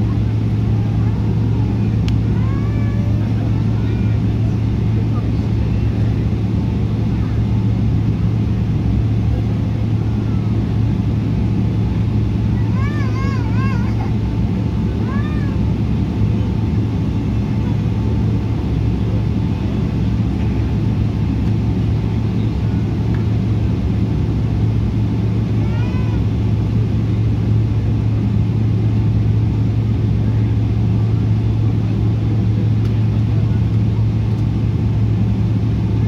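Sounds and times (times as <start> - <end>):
aircraft engines humming: 0.0 - 36.0
constant cabin rumble: 0.0 - 36.0.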